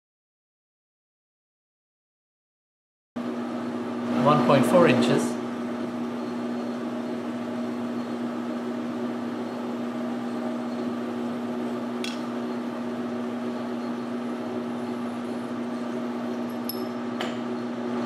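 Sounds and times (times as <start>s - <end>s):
metal lathe humming: 3.2s - 17.8s.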